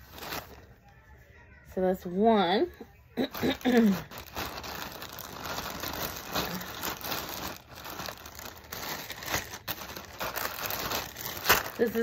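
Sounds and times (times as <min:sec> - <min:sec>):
plastic bags crinkling: 0:00.0 - 0:00.8, 0:03.2 - 0:12.0.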